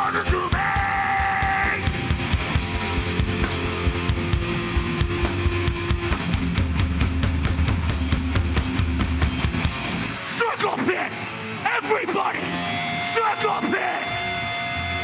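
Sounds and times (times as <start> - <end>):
bass guitar: 0.0 - 15.0
distorted electric guitars: 0.0 - 15.0.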